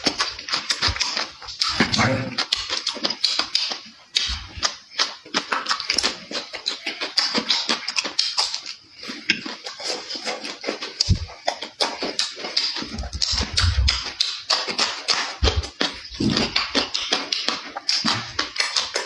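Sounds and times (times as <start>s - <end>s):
chewing and smacking: 0.0s - 19.0s.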